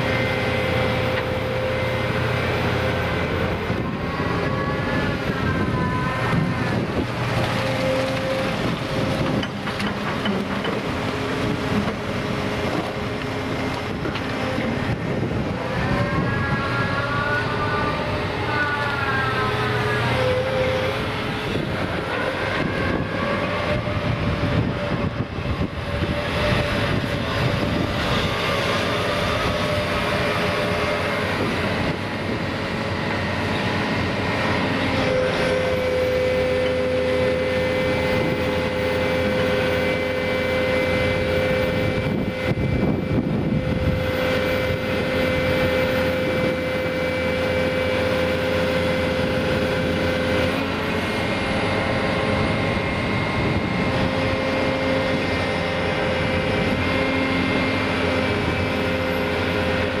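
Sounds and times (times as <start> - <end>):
steady whine: 0.0 - 9.9, 10.6 - 60.0
diesel engine and hydraulics running: 0.0 - 60.0.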